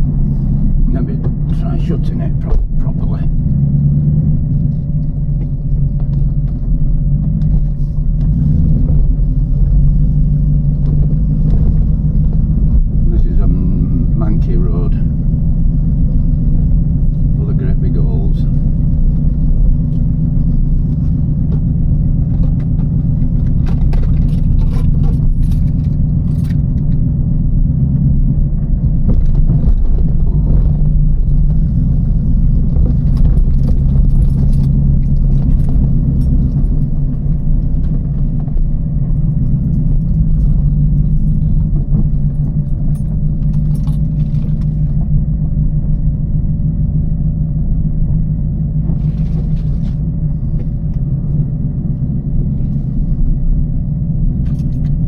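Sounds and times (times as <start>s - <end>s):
car engine and exhaust drone: 0.0s - 55.0s
clicks and rattles inside car: 0.0s - 55.0s.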